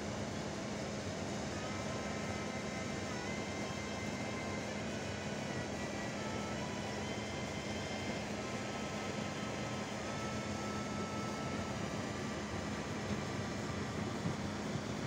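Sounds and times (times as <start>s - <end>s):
faint whining tones: 0.0s - 15.0s
machinery low drone: 0.0s - 15.0s.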